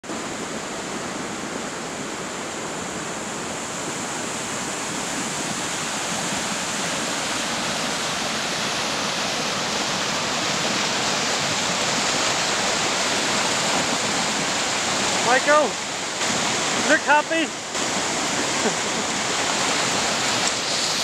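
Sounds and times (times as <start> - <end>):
water rushing over a weir: 0.0 - 21.0.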